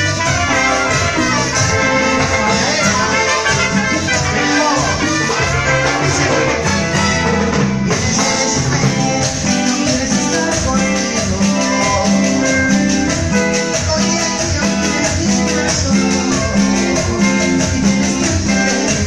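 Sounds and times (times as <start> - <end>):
electric guitar: 0.0 - 19.0
live band playing latin dance music: 0.0 - 19.0.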